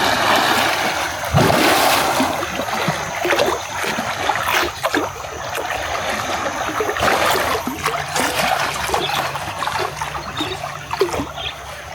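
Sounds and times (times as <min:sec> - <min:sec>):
water splashing and trickling: 0:00.0 - 0:11.9.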